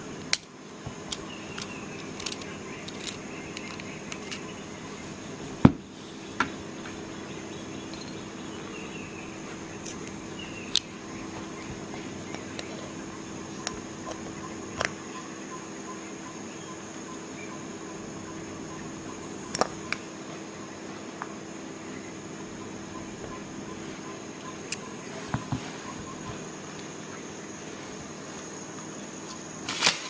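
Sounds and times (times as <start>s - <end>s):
background hum and hiss: 0.0s - 30.0s.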